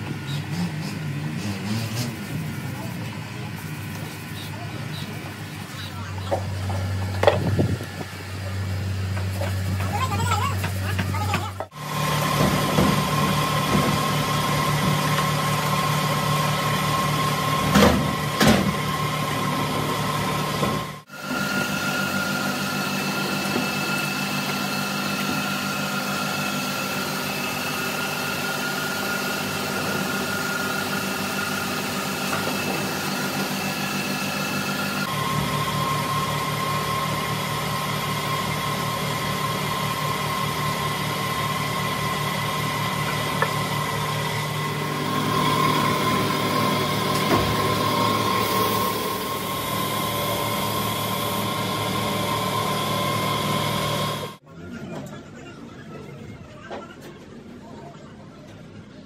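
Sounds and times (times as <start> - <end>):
workshop machinery humming: 0.0 - 59.0.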